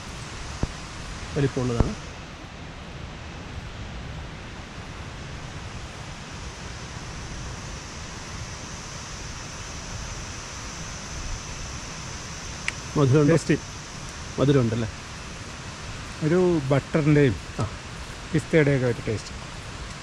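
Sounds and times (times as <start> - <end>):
even hiss: 0.0 - 20.0
thin steady high tone: 0.0 - 20.0.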